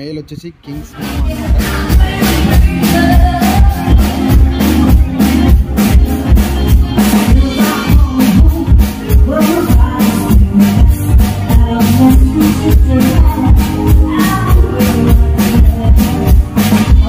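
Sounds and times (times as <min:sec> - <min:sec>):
bass guitar: 0:00.7 - 0:17.0
drum kit beat: 0:00.7 - 0:17.0
guitars playing: 0:00.9 - 0:17.0.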